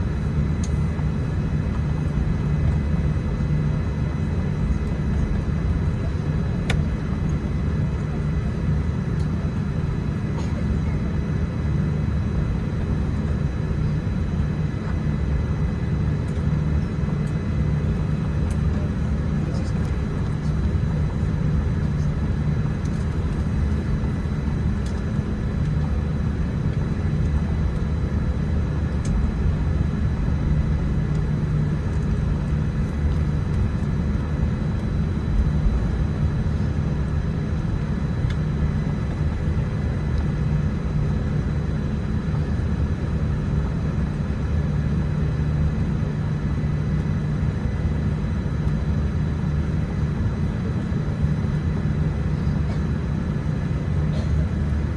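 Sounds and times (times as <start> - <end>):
airliner cabin low rumble: 0.0 - 54.9.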